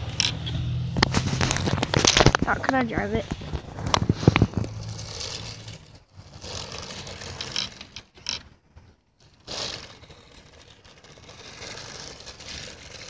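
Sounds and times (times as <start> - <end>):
toy truck motor revving: 1.4 - 8.5, 9.2 - 13.0.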